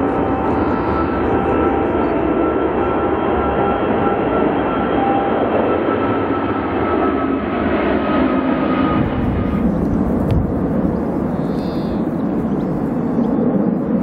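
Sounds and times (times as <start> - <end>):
jet airliner engines roaring: 0.0 - 14.0.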